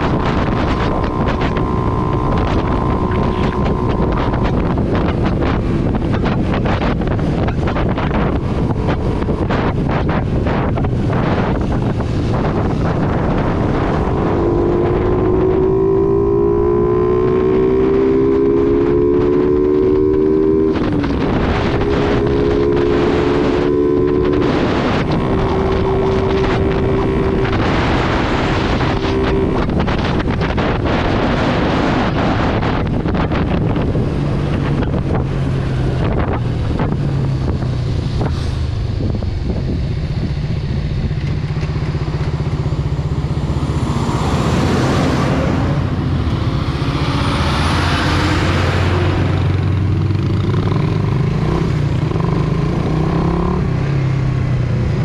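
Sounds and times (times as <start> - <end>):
loud rushing sound: 0.0 - 55.0
motorcycle engine cruising: 0.0 - 55.0
wind rushing over microphone: 0.0 - 55.0.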